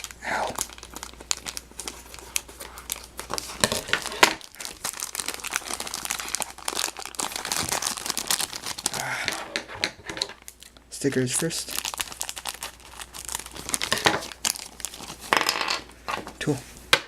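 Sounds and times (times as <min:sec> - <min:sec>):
packaging crinkling: 0:00.0 - 0:15.8.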